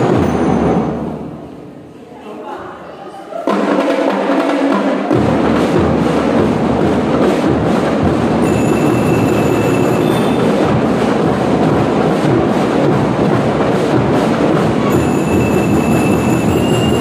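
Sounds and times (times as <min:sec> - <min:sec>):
drum roll: 0:00.0 - 0:01.5, 0:03.4 - 0:17.0.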